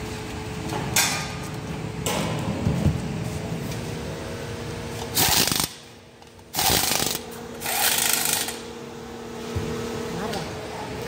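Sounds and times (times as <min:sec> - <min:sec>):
workshop hum: 0:00.0 - 0:11.0.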